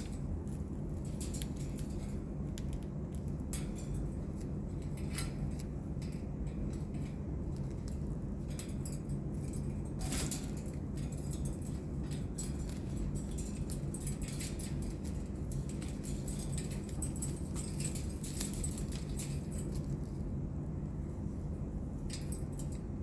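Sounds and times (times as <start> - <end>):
parrot clicking and scratching: 0.0 - 20.3
steady low hum: 0.0 - 23.0.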